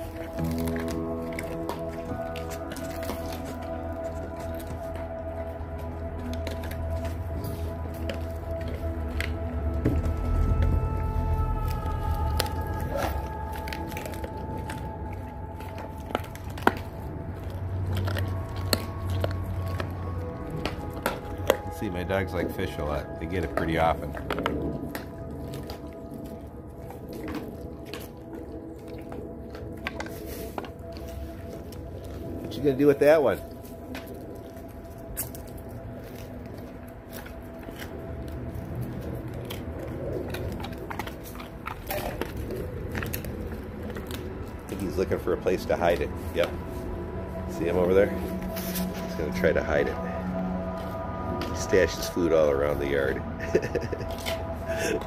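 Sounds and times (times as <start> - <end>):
teeth clicking on bone: 0.0 - 47.2
dogs chewing and crunching: 0.0 - 55.0.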